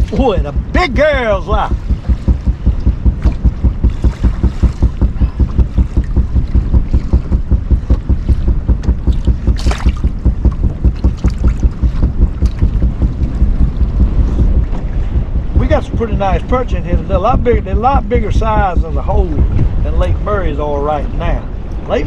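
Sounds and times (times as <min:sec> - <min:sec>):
water slapping boat hull: 0:00.0 - 0:20.4
wind rumbling on microphone: 0:00.0 - 0:22.0.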